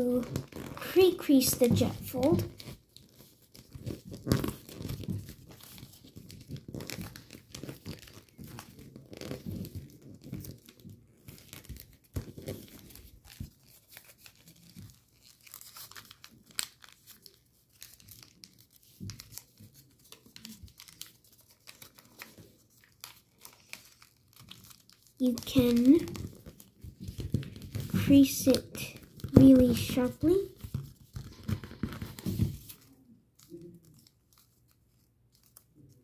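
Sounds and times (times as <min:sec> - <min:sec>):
paper crackles: 0:00.0 - 0:36.0
paper rustling and crinkling: 0:00.2 - 0:36.0.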